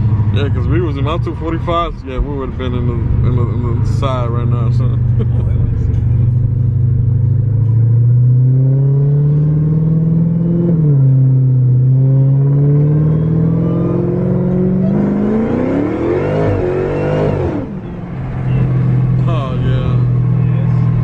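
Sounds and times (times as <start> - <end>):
car engine accelerating: 0.0 - 21.0
supercharger whine: 0.0 - 21.0.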